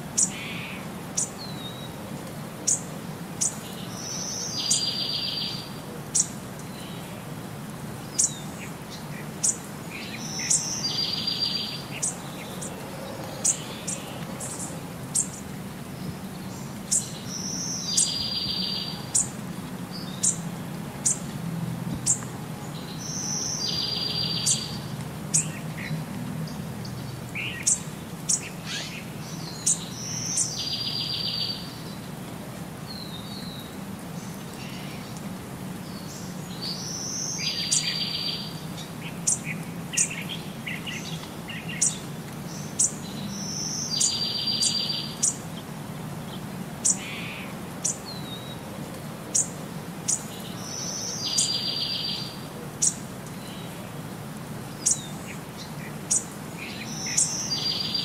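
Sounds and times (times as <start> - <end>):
birds chirping: 2.6 - 7.2, 8.0 - 21.3, 21.9 - 32.2, 32.9 - 48.7, 49.3 - 58.0.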